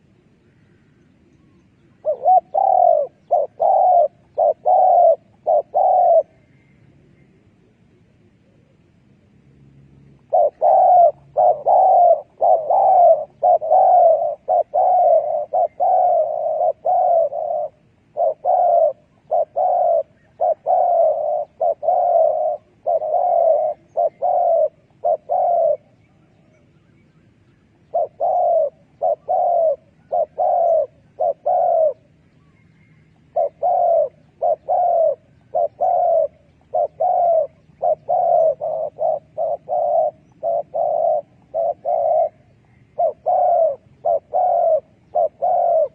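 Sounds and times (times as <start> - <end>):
dove cooing: 0.0 - 6.8, 10.1 - 45.9.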